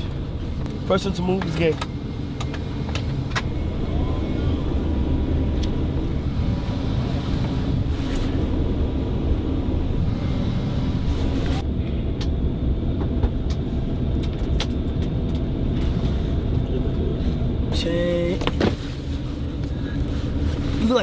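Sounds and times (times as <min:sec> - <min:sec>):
jet cabin engine rumble: 0:00.0 - 0:21.0.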